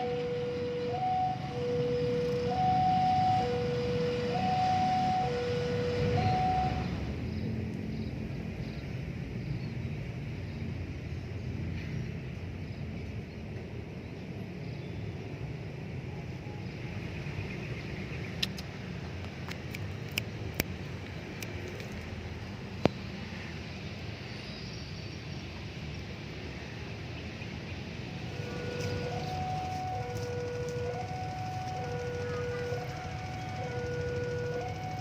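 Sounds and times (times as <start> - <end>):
vehicle rumble: 0.0 - 35.0.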